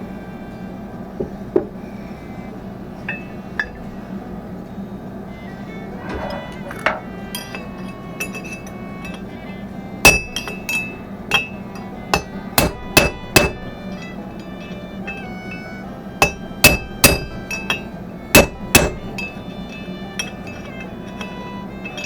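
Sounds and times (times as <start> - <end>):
hammer blows on metal: 3.0 - 4.8, 5.4 - 22.0.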